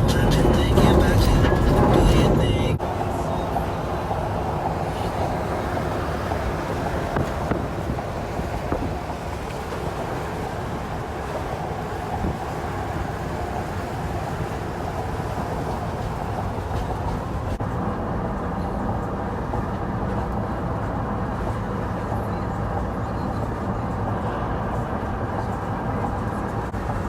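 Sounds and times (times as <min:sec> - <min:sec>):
steady mechanical rumble: 0:00.0 - 0:27.0.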